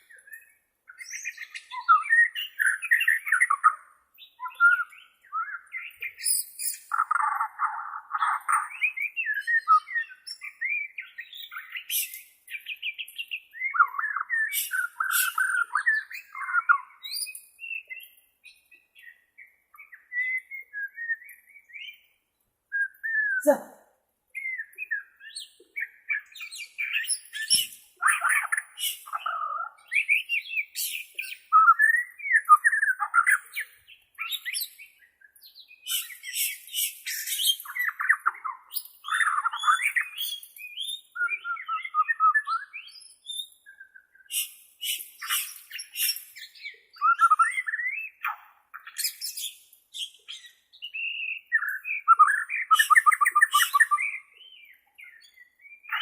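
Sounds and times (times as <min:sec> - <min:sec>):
bird whistling song: 0:00.0 - 0:56.0.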